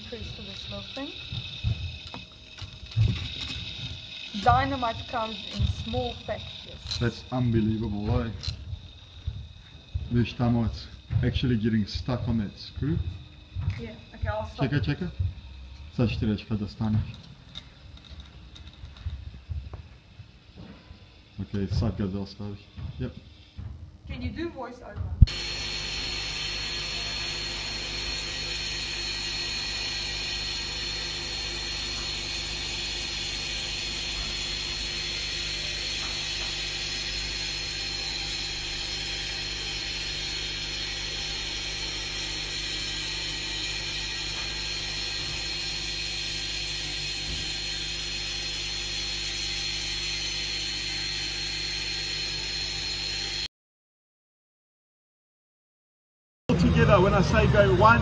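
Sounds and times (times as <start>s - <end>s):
gear motor whining: 0.0s - 23.6s, 25.2s - 53.5s.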